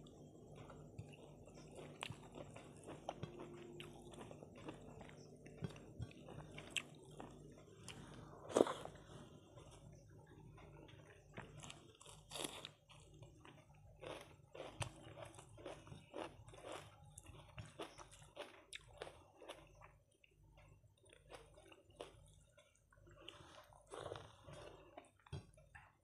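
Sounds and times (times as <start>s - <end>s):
chewing with wet mouth clicks: 0.5s - 8.0s, 10.5s - 25.9s.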